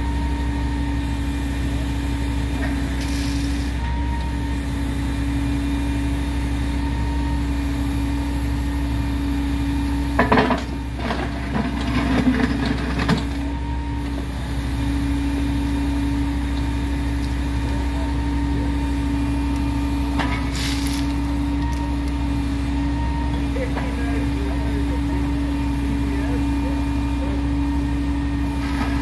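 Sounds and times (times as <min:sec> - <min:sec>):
equipment engine running: 0:00.0 - 0:29.0.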